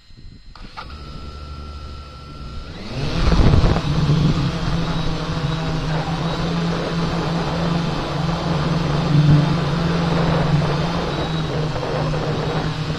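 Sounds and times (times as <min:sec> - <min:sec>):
drone propellers buzzing: 0:00.0 - 0:12.9.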